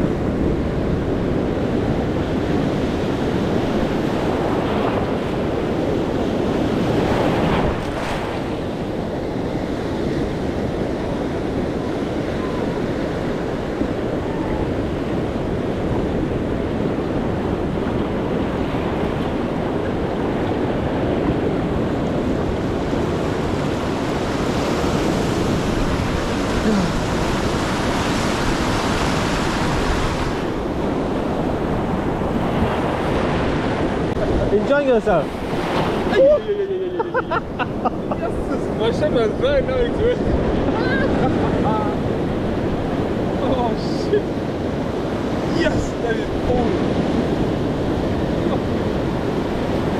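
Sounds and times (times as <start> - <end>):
ocean surf breaking: 0.0 - 49.9
wind buffeting microphone: 0.0 - 49.9.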